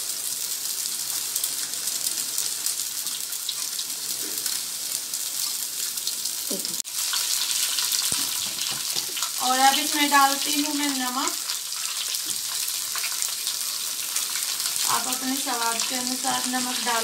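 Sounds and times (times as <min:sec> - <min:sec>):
noodles sizzling in hot oil: 0:00.0 - 0:17.0.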